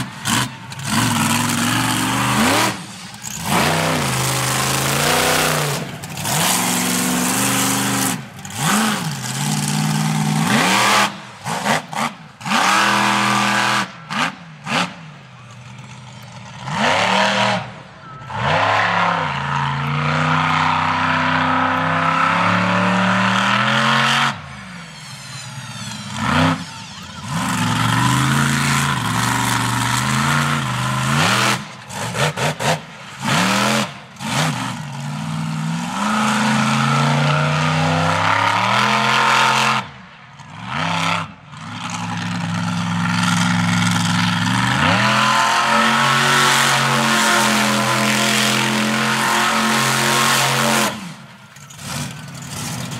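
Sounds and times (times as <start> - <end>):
monster truck engine revving: 0.0 - 52.9.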